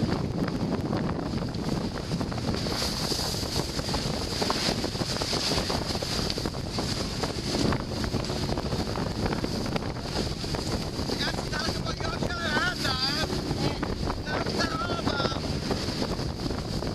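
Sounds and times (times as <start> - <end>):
water rushing along hull: 0.0 - 16.9
wind buffeting microphone: 0.0 - 16.9.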